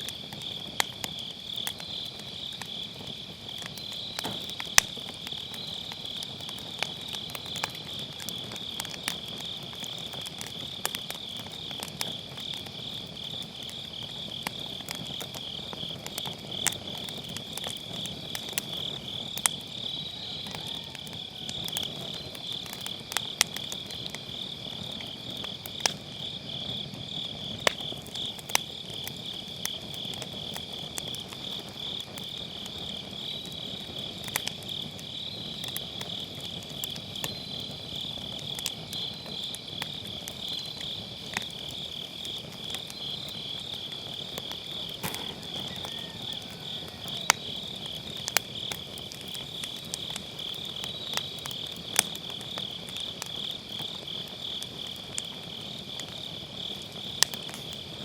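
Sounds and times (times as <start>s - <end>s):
crickets chirring: 0.0s - 58.0s
wood fire crackling and popping: 0.0s - 58.0s.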